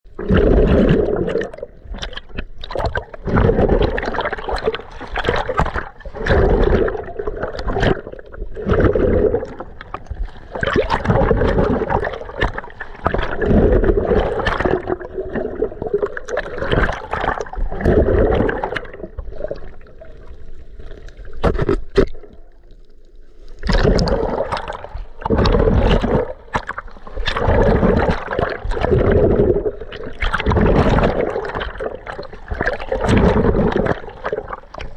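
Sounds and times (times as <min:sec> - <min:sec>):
underwater water churning: 0:00.1 - 0:34.9.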